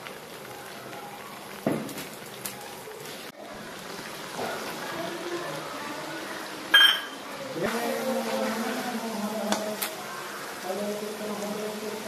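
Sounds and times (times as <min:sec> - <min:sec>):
curry sizzling and bubbling: 0:00.0 - 0:12.0.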